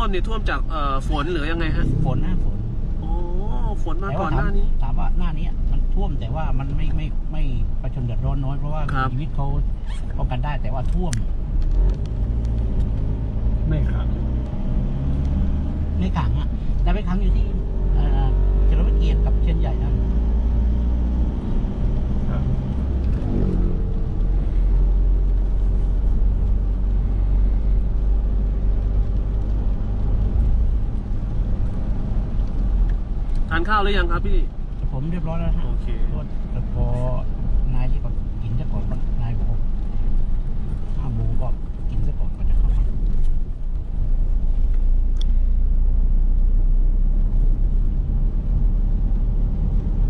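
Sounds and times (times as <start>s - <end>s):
car engine and road noise: 0.0s - 50.0s
vehicle rumble from inside: 0.0s - 50.0s.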